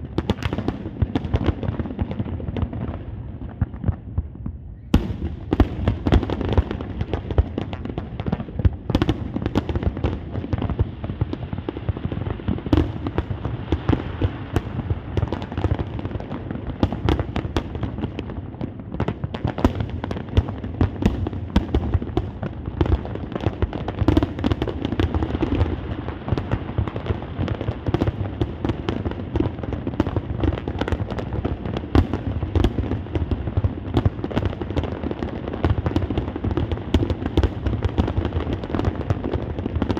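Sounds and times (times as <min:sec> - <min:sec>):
fireworks bangs and crackling: 0:00.0 - 0:39.9
fireworks booms: 0:00.0 - 0:39.9.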